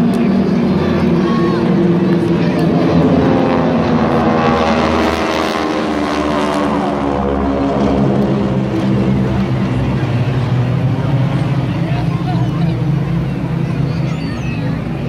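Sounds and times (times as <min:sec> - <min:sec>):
propeller planes passing overhead: 0:00.0 - 0:15.0.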